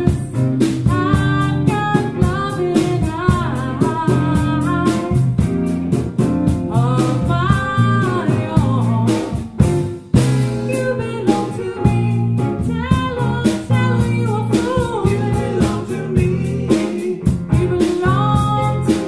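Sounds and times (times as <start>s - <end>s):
soft rock band with vocals: 0.0s - 19.0s.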